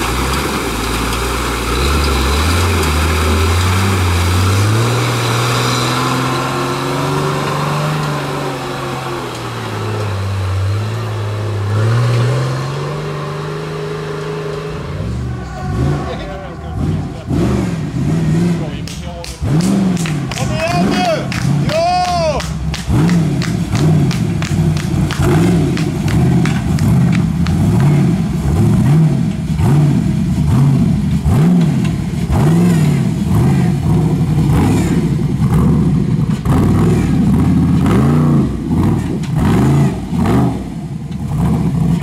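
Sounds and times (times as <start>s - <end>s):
jeep engine revving: 0.0s - 42.0s.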